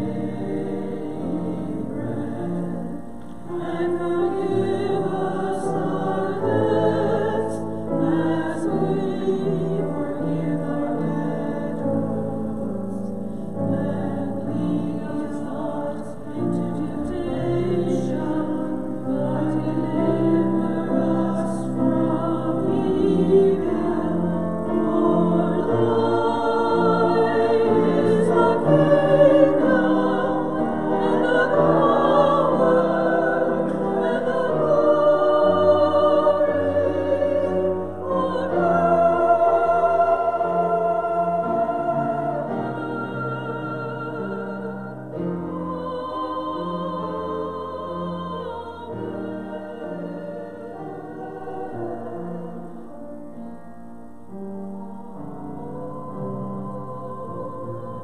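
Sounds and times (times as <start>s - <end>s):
sacred vocal singing: 0.0s - 53.7s, 54.3s - 58.0s.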